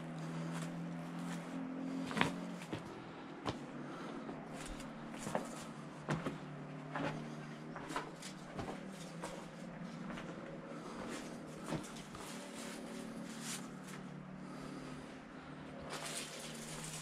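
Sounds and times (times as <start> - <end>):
footsteps on dry rough ground: 0.0 - 15.0
faint low hum: 0.0 - 17.0.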